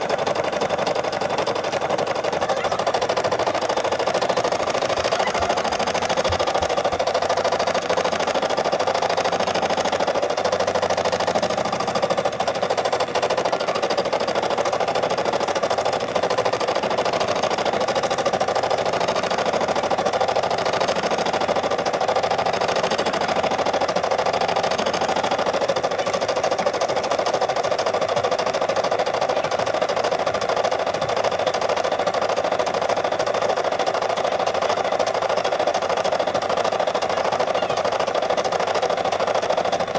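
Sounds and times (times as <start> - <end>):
embroidery machine needle chatter: 0.0 - 39.9.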